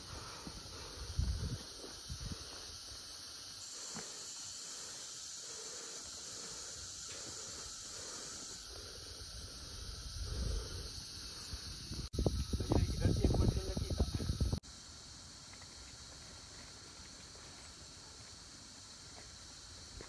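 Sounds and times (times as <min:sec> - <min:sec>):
high insect hiss: 0:00.0 - 0:20.0.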